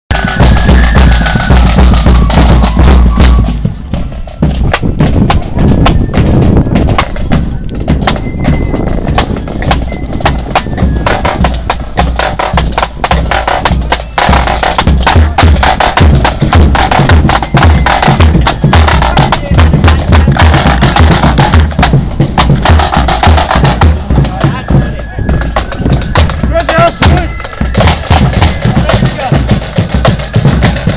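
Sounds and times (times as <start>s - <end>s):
bass drum beat: 0.1s - 30.9s
snare drums rattling: 0.1s - 30.9s.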